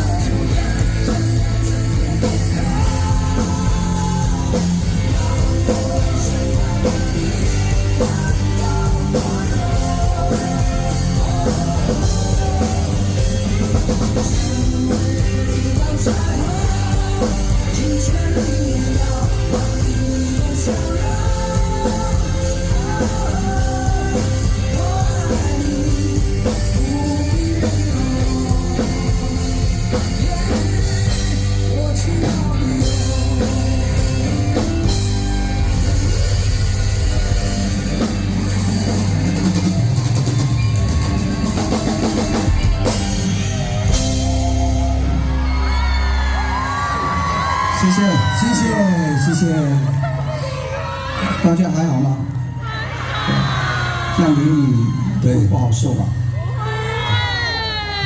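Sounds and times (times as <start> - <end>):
melodic lead line: 0.0 - 51.1
live rock band playing: 0.0 - 58.0.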